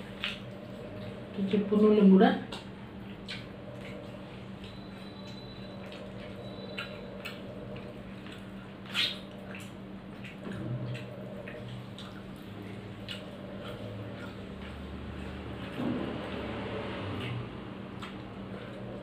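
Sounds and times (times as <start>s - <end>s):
chewing and lip-smacking: 0.0s - 1.4s, 2.4s - 19.0s
steady low hum: 0.0s - 19.0s.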